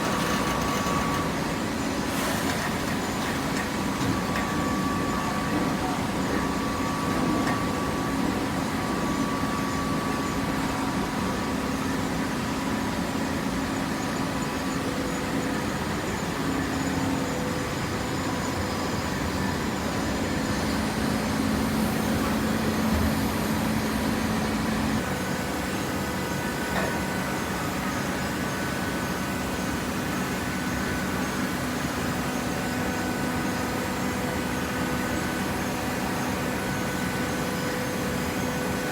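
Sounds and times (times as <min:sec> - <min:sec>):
conveyor machine running: 0:00.0 - 0:38.9.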